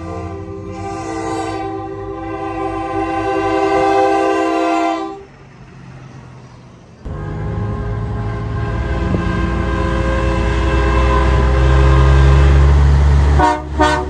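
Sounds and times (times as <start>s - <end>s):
truck air horn blast: 0.0s - 5.3s, 7.1s - 14.0s
truck diesel engine rumble: 0.0s - 14.0s.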